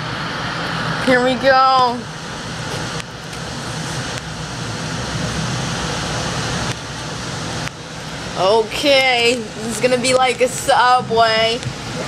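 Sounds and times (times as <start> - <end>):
train running on track: 0.0 - 12.0.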